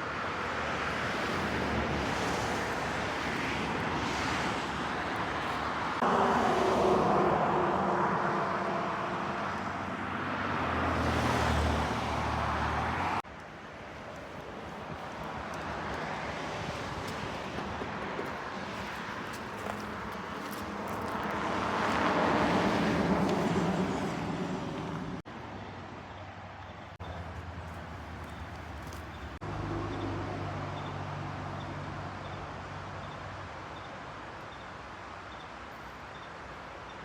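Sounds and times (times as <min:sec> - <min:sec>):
vehicle engine hum: 0:00.0 - 0:33.5
outdoor background noise: 0:00.0 - 0:37.0.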